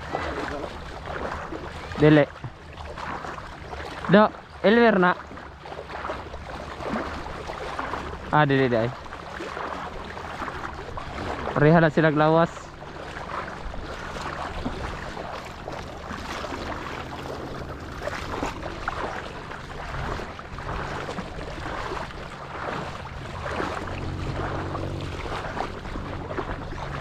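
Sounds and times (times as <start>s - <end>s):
sea surf: 0.0s - 27.0s
wind: 0.0s - 27.0s.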